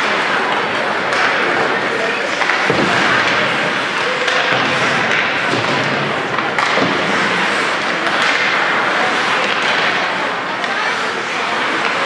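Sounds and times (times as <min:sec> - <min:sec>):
skating and arena noise: 0:00.0 - 0:12.0.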